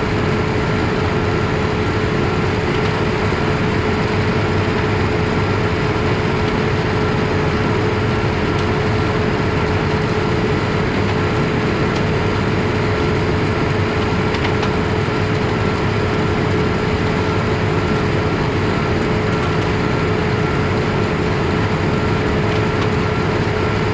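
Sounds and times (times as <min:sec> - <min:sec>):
airliner cabin roar: 0:00.0 - 0:23.9.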